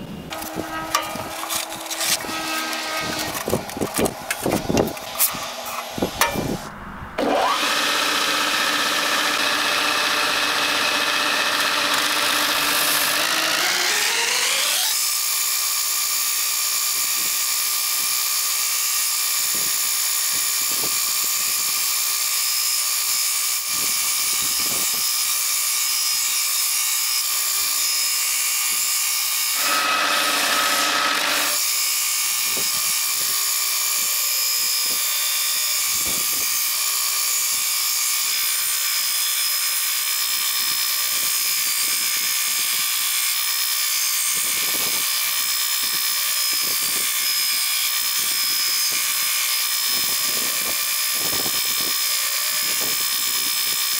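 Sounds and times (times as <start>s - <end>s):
belt grinder shaping wood: 0.3s - 6.6s, 7.2s - 53.9s.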